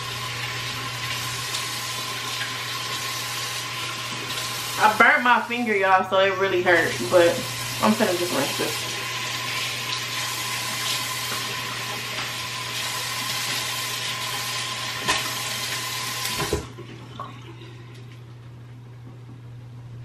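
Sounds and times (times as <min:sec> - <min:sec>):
tap water running into sink: 0:00.0 - 0:05.8, 0:06.5 - 0:18.2.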